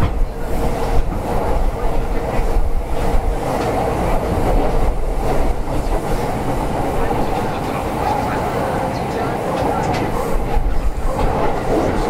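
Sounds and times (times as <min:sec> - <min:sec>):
steady train whine: 0:00.0 - 0:12.0
train wheels rumbling on rail: 0:00.0 - 0:12.0.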